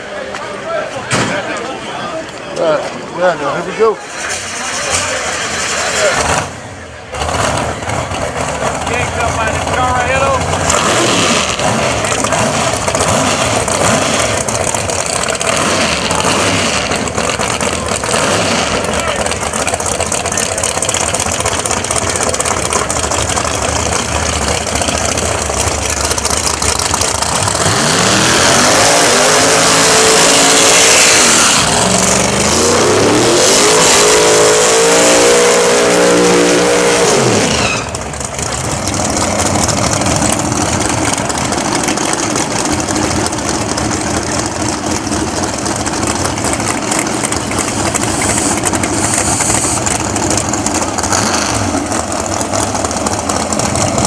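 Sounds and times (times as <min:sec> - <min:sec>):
drag racing car engine at full throttle: 0:02.6 - 0:54.0.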